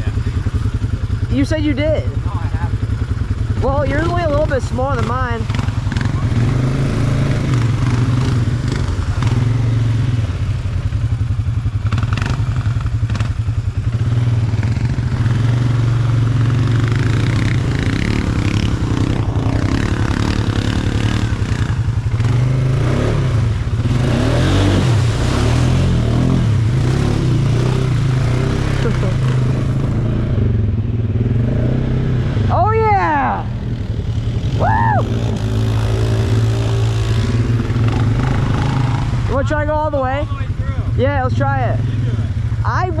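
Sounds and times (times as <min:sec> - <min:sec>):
atv engine revving: 0:00.0 - 0:43.0.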